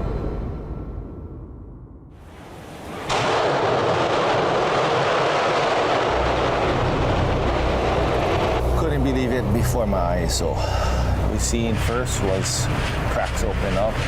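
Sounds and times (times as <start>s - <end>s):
loud steady rushing noise: 2.2s - 14.0s.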